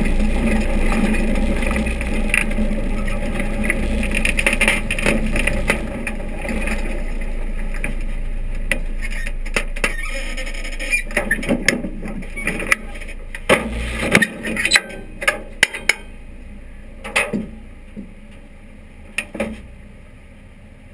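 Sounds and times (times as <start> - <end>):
car engine running at low speed: 0.0 - 20.9.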